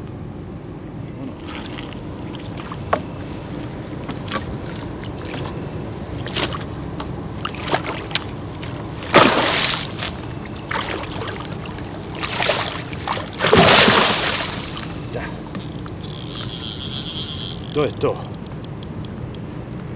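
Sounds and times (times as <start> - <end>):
fish thrashing and splashing: 1.3 - 17.8.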